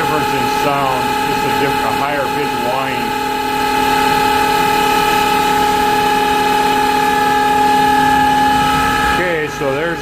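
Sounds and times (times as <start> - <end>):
lathe spindle high-pitched whine: 0.0 - 10.0.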